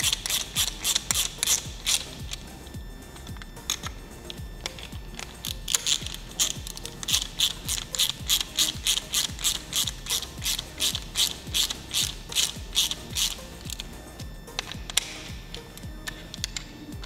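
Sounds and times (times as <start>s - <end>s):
ratcheting screwdriver clicking: 0.0s - 16.7s.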